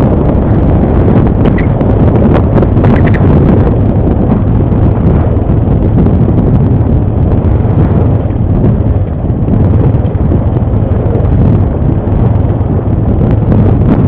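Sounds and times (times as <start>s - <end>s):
atv engine running: 0.0s - 14.0s
wind buffeting on microphone: 0.0s - 14.0s.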